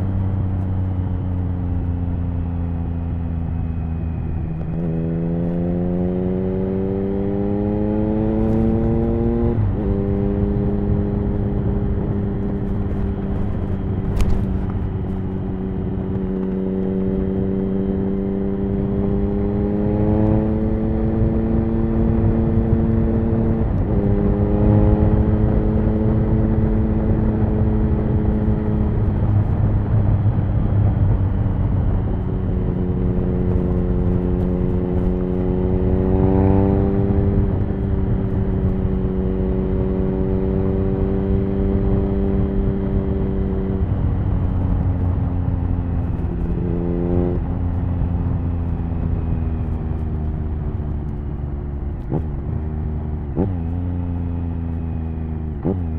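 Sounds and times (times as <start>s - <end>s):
motorcycle engine accelerating: 0.0s - 55.9s
wind rush: 3.8s - 54.1s.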